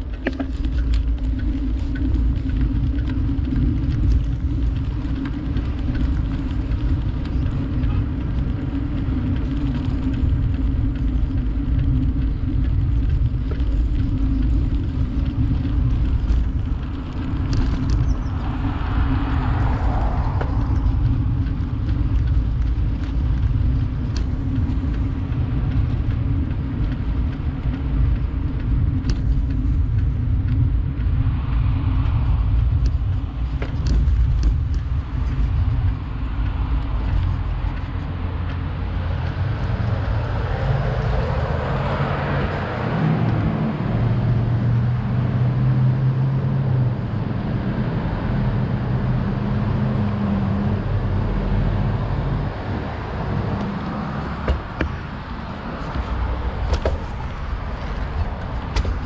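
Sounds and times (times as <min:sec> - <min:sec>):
passing motor vehicle: 0:00.0 - 0:59.0
wind and road noise rumble: 0:00.0 - 0:59.0.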